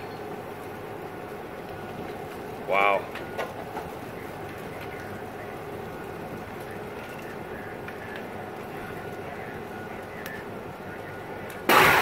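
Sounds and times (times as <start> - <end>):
fire hissing and crackling: 0.0 - 12.0.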